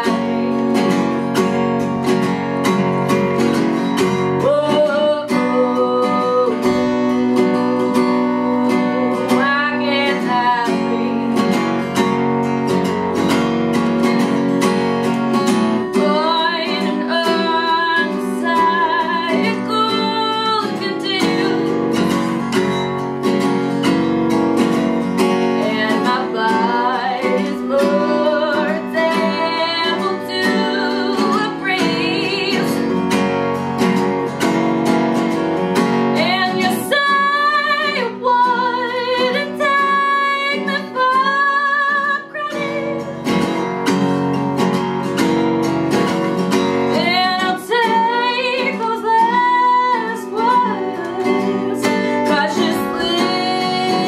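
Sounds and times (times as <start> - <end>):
woman singing: 0.0 - 13.3, 14.2 - 24.0, 24.6 - 34.2, 36.0 - 44.5, 46.0 - 54.0
acoustic guitar strumming: 0.0 - 54.0.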